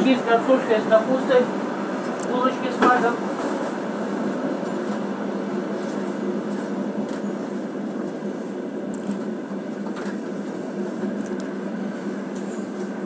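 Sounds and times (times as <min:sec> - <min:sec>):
moving passenger train interior: 0:00.0 - 0:13.0.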